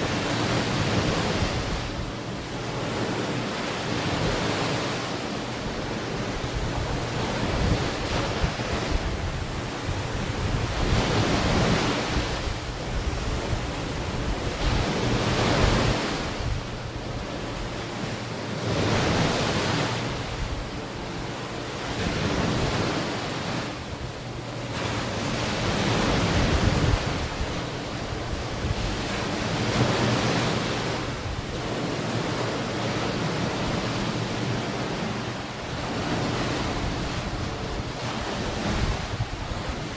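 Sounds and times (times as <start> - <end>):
ocean waves breaking on beach: 0.0 - 39.9
wind buffeting microphone: 0.0 - 39.9.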